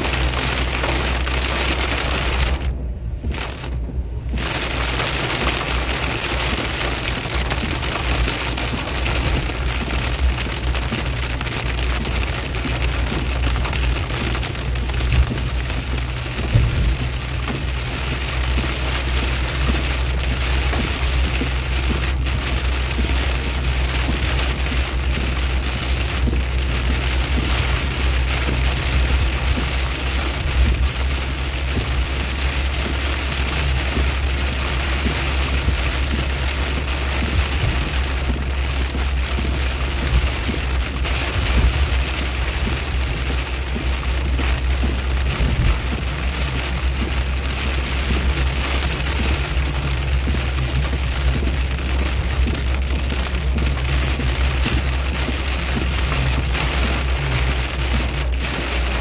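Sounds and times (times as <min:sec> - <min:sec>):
car driving rumble: 0:00.0 - 0:59.0
rain-like hiss: 0:00.0 - 0:59.0.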